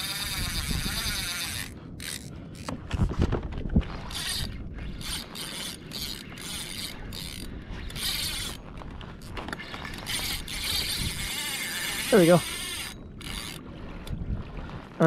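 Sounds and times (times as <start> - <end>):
fishing reel whirring: 0.0 - 2.7, 3.9 - 14.2.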